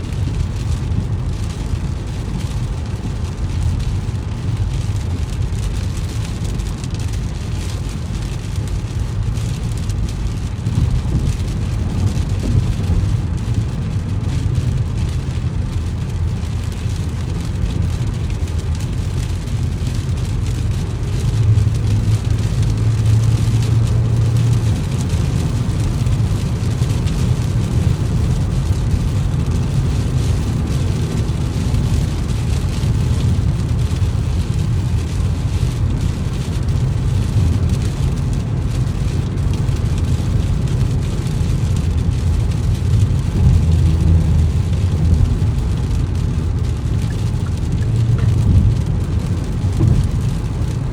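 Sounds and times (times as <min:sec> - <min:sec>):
rain hiss: 0:00.0 - 0:50.9
tyres and engine rumble: 0:00.0 - 0:50.9.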